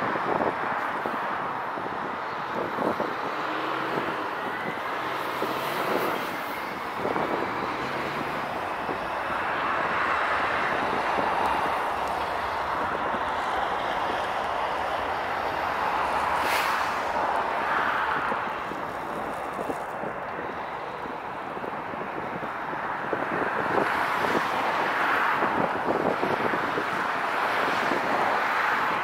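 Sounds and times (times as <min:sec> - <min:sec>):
jet engine whine and rush: 0:00.0 - 0:29.0.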